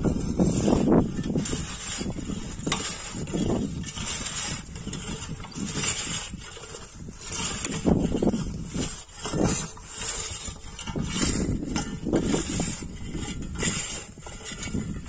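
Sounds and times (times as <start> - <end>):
weeder blade scraping through dry soil: 0.0 - 15.0.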